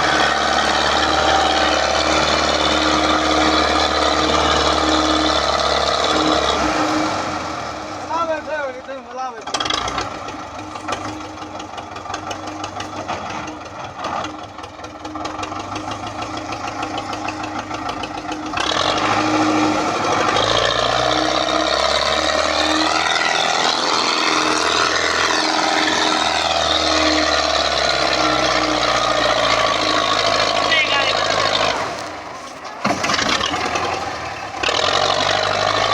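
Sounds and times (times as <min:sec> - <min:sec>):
tractor diesel engine knocking: 0:00.0 - 0:35.9.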